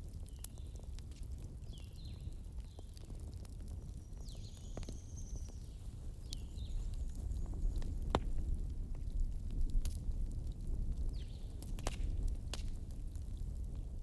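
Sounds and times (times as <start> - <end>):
fire crackles and pops: 0.0 - 14.0
fireplace fire rumbling: 0.0 - 14.0.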